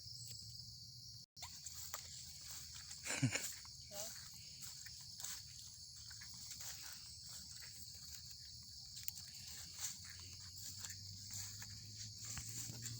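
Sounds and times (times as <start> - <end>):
insects chirping: 0.0 - 12.9.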